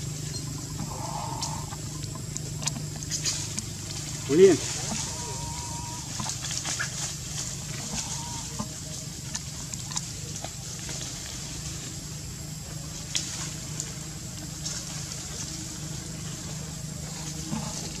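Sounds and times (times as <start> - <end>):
dry leaves and twigs crackling: 0.0 - 18.0
outdoor background hiss: 0.0 - 18.0.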